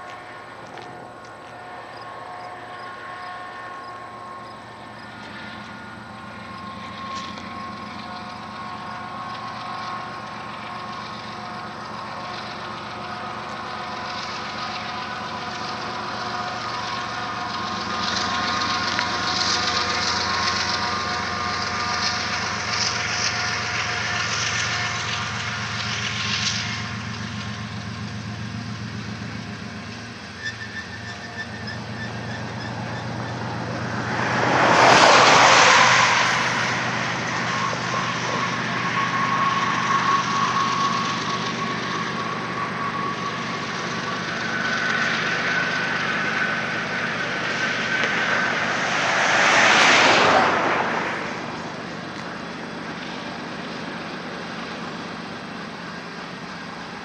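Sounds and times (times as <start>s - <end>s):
diesel locomotive engines: 0.0s - 57.0s
steel wheels rolling on rails: 0.0s - 57.0s.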